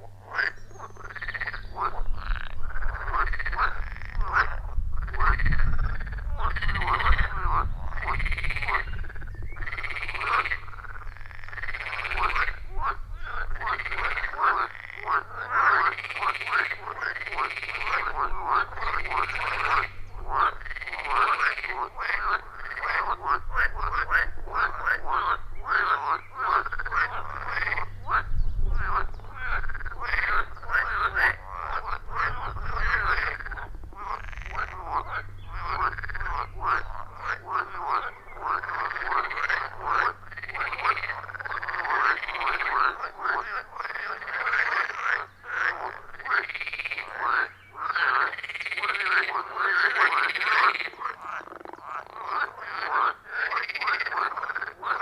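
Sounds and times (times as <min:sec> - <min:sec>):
chorus of frogs croaking: 0:00.0 - 0:55.0.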